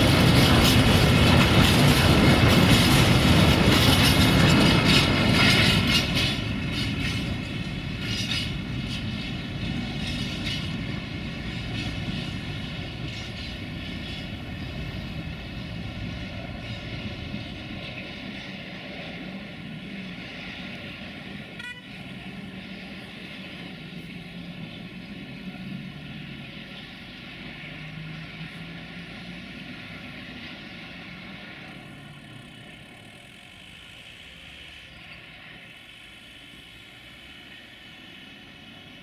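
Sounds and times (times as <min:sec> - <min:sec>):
freight wagons rumbling on rails: 0:00.0 - 0:39.0.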